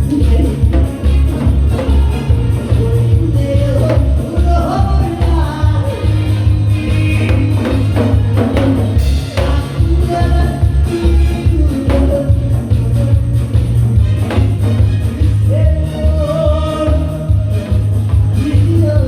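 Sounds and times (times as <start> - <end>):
loud music with pulsing bass beat: 0.0 - 19.0.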